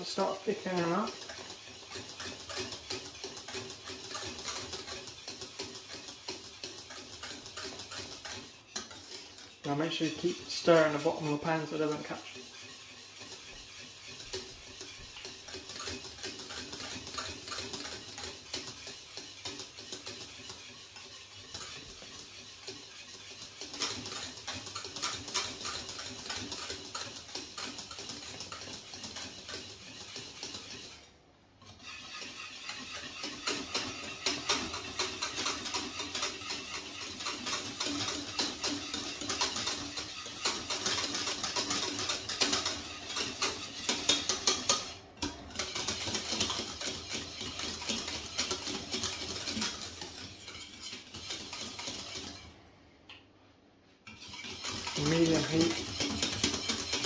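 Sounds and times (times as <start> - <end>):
whisk clicking against saucepan: 0.0 - 53.2, 54.0 - 57.0.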